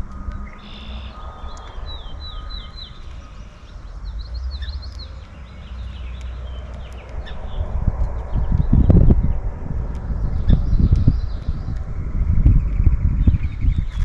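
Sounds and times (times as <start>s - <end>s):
songbirds chirping: 0.0s - 14.0s
steady low rumble: 0.0s - 14.0s.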